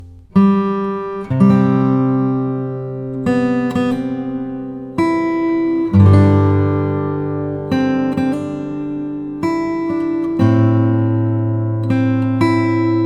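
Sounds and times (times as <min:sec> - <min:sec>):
acoustic guitar slow chords: 0:00.0 - 0:13.0.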